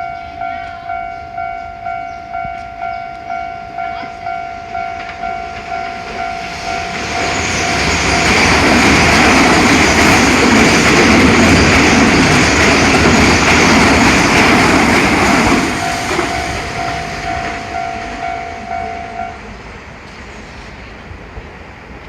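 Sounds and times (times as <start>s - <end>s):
level crossing warning bell: 0.0s - 19.8s
electric train passing: 0.0s - 22.0s.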